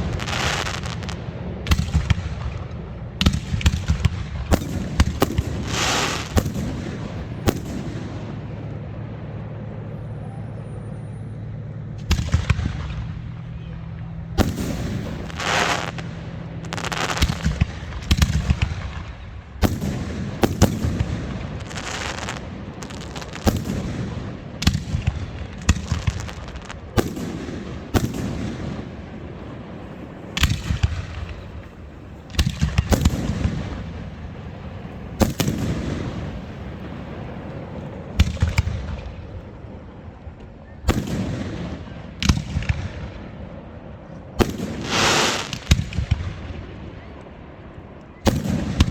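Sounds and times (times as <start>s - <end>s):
fireworks banging: 0.0s - 10.0s, 12.0s - 46.8s
rumbling echo: 0.0s - 10.2s, 11.8s - 47.1s.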